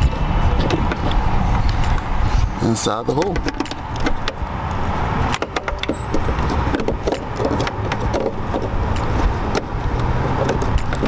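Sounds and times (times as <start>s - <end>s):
camera handling rumble: 0.0s - 11.0s.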